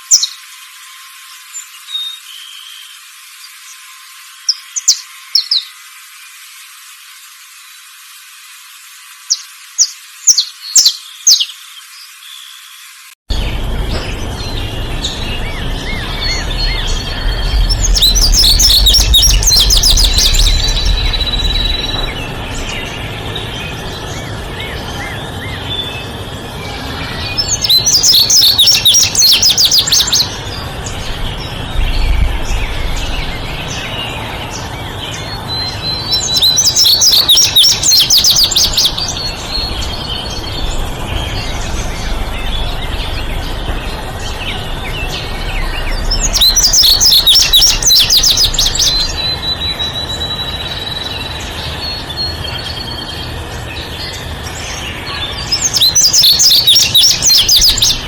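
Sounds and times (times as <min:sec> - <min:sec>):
chorus of faint bird chirps: 0:09.3 - 0:58.0.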